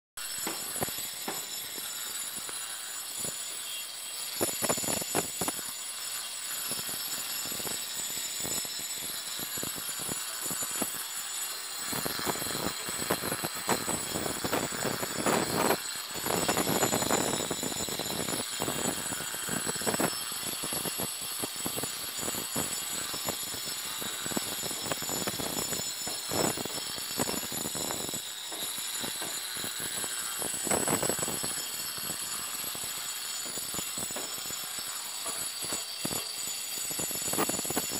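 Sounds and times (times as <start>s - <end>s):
angle grinder motor whine: 0.2s - 37.9s
grinding disc rasping on concrete: 0.2s - 37.9s.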